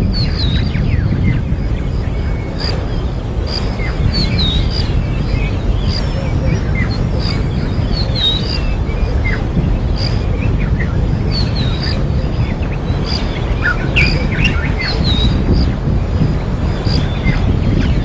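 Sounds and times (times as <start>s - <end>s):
birds chirping: 0.0s - 18.0s
low background rumble: 0.0s - 18.0s.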